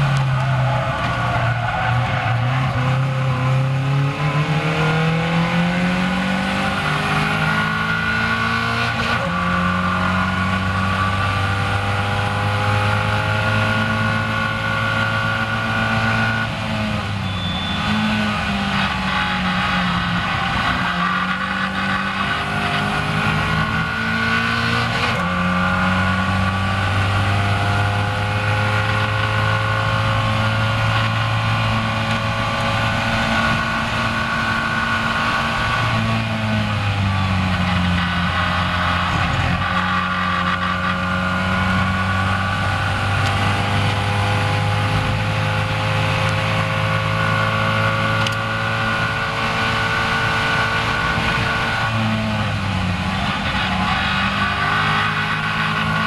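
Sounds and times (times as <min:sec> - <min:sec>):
race car engine at full throttle: 0:00.0 - 0:56.0
wind and road rush: 0:00.0 - 0:56.0.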